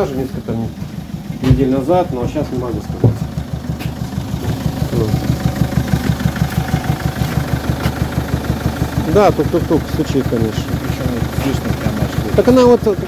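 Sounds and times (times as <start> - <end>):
diesel engine knocking: 0.0 - 13.0.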